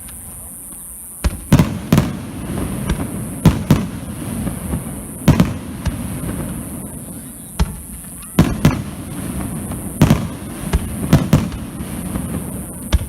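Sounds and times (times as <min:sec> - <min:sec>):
fireworks bangs: 0:00.0 - 0:13.0
fireworks rumbling and crackling: 0:00.0 - 0:13.0.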